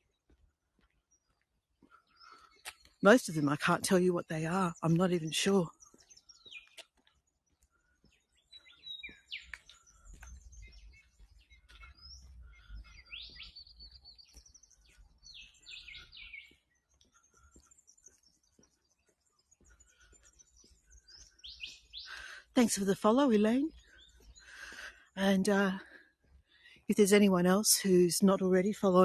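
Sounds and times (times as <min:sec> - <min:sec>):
wild birds chirping: 0:00.0 - 0:29.0.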